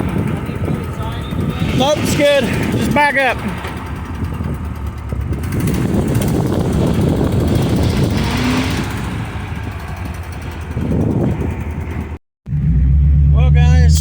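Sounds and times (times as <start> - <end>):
car engine rough chugging: 0.0 - 14.0.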